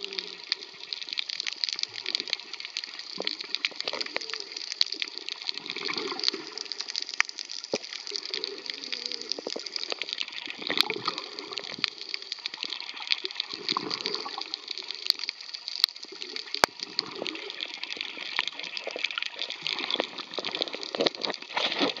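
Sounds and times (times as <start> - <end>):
gurgle of bubbles: 0.0 - 22.0
underwater crackling hiss: 0.0 - 22.0.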